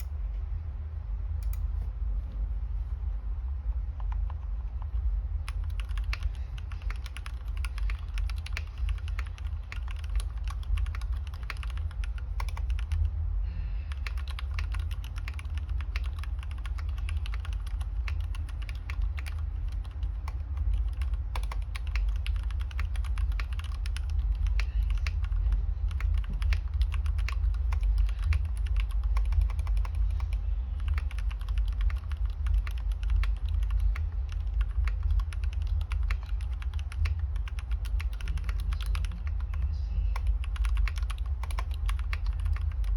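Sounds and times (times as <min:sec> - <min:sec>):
low hum: 0:00.0 - 0:42.9
mechanical keyboard typing: 0:04.0 - 0:13.1, 0:13.9 - 0:42.9.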